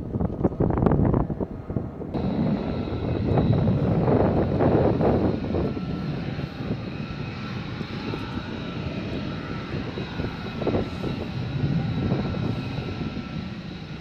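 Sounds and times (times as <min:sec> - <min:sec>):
jet engines rumbling with whine: 0:00.0 - 0:14.0.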